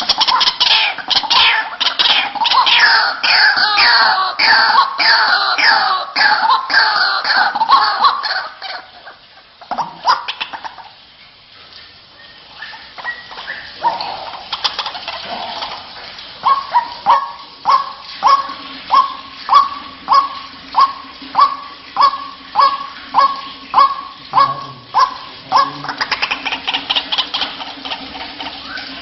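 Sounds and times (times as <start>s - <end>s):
waterhen harsh calls: 0.0s - 29.0s.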